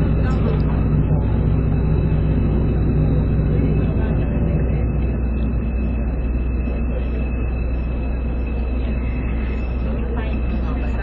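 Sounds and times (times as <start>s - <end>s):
low engine drone: 0.0s - 11.0s
thin high whine: 0.0s - 11.0s.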